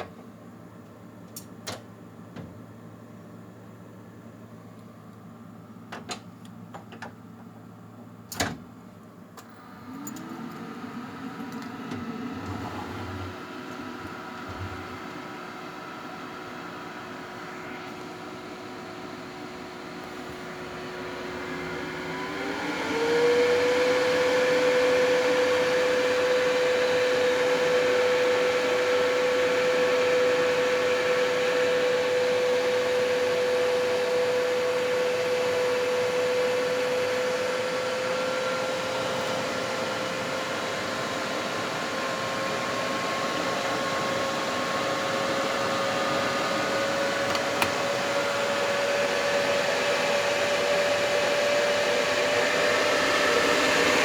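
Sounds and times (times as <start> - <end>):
computer fans whining: 9.2 - 54.0.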